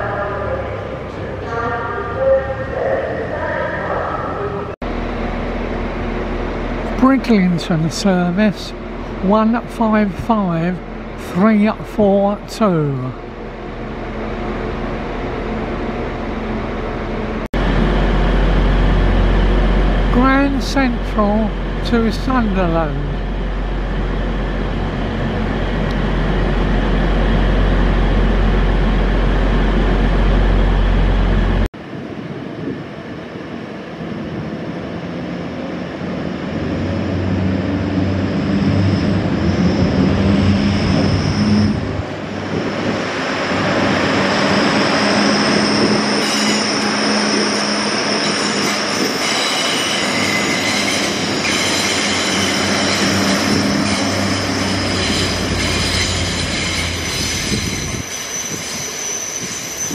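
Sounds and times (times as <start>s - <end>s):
diesel train engine rumble: 0.0s - 59.9s
train engine hum with high whine: 0.0s - 59.9s.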